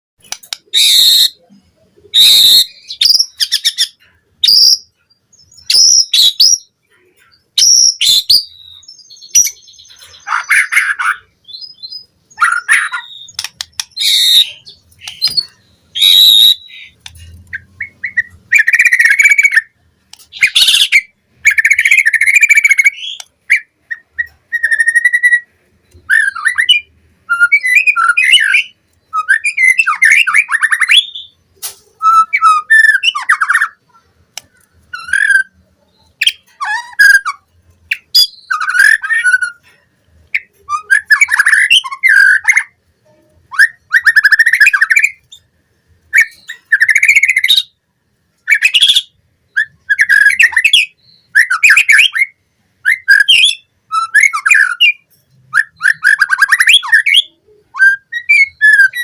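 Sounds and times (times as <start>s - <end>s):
songbird whistling and trilling: 0.2s - 1.5s, 2.1s - 6.7s, 7.3s - 19.7s, 20.3s - 31.4s, 32.0s - 33.8s, 34.5s - 39.6s, 40.3s - 42.8s, 43.5s - 45.4s, 46.1s - 47.8s, 48.4s - 59.0s.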